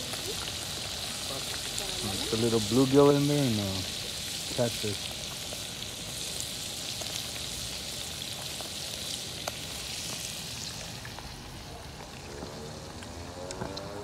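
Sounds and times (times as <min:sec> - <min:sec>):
oil popping and crackling: 0:00.0 - 0:14.0
oil sizzling with fish frying: 0:00.0 - 0:14.0.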